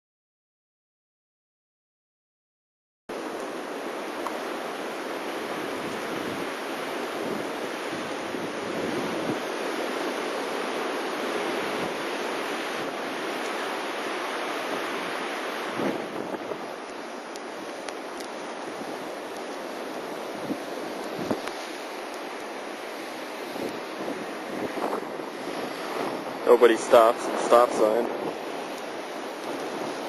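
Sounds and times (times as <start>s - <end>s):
blizzard wind on microphone: 3.1s - 30.0s.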